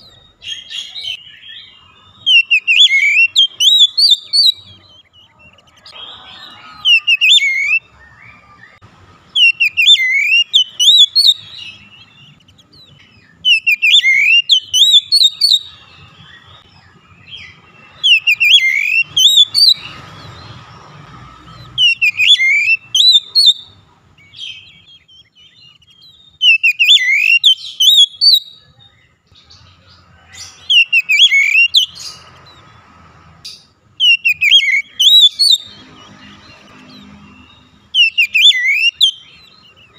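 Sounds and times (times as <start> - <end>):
bird whistling song: 0.0 - 29.1, 30.4 - 32.7, 33.5 - 39.9.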